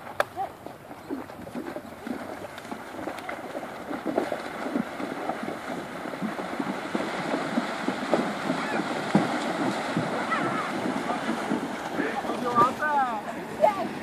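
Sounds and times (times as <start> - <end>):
horses splashing through river water: 0.0 - 14.0.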